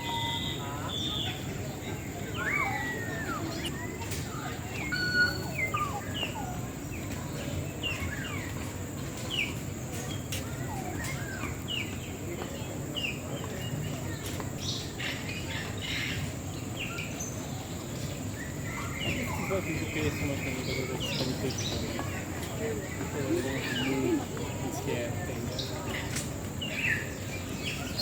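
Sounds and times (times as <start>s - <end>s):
birds chirping: 0.0s - 28.0s
steady background noise: 0.0s - 28.0s.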